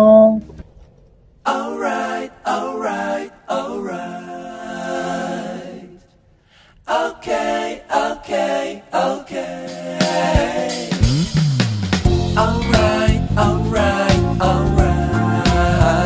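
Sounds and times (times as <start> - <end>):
sung vocals music: 1.4 - 11.4, 12.1 - 16.0.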